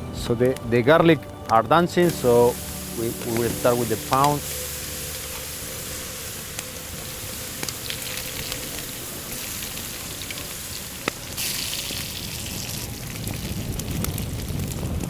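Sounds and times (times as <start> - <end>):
garlic sizzling in oil: 2.0 - 14.8
sharp crackles: 2.0 - 15.0.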